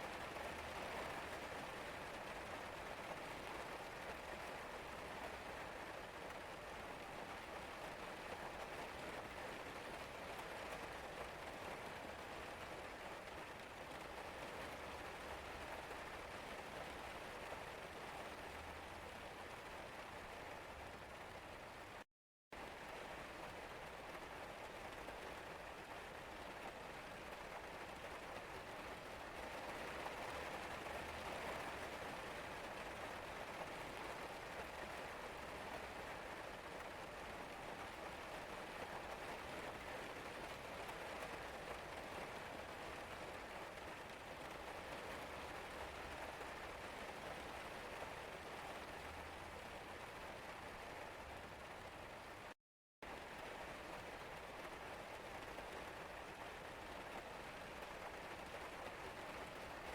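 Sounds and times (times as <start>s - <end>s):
rain pattering on surfaces: 0.0s - 22.0s, 22.6s - 59.9s.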